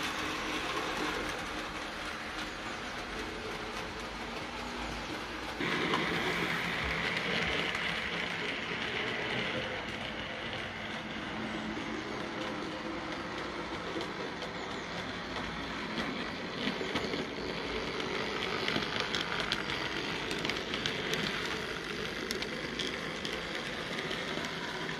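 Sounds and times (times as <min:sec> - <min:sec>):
model train running: 0:00.0 - 0:24.9
wheels clicking over rail joints: 0:00.0 - 0:24.9.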